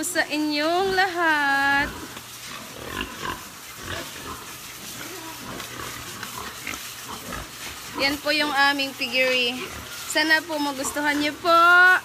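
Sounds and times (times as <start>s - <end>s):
pigs calling: 0.0s - 12.0s.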